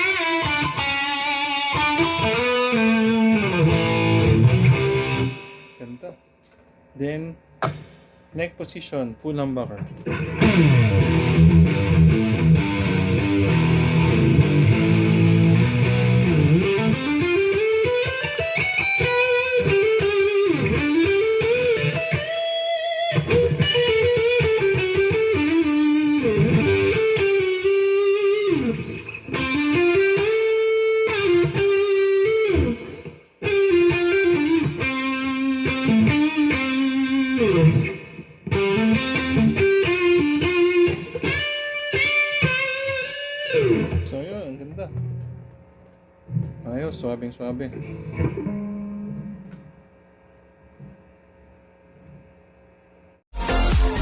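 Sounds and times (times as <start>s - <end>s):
distorted electric guitar: 0.0s - 6.1s, 7.0s - 45.7s, 47.6s - 49.7s, 53.3s - 54.0s.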